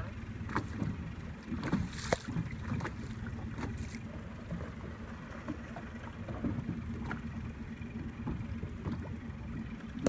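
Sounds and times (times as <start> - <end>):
boat engine low rumble: 0.0 - 10.0.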